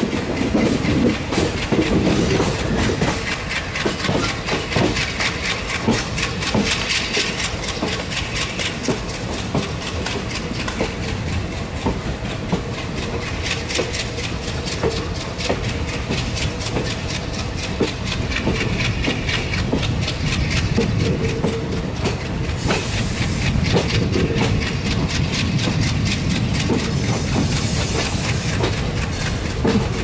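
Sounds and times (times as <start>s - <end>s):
train wheels clattering over rail joints: 0.0s - 30.0s.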